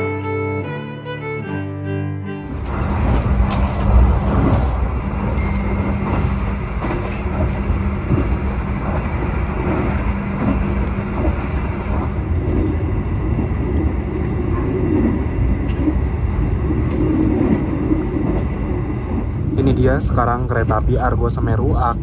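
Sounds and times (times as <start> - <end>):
low hum: 2.4 - 22.0
train wheels rumbling on rails: 2.5 - 22.0.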